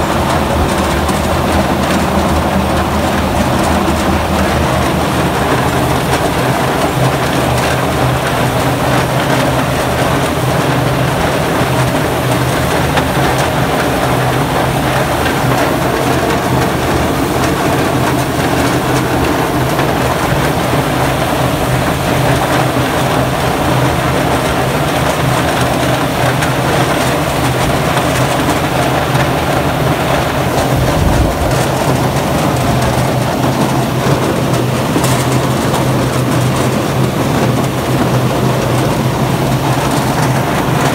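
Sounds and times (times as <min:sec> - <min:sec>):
golf balls churning: 0:00.0 - 0:40.9
machine humming: 0:00.0 - 0:40.9
water jets spraying: 0:00.0 - 0:40.9.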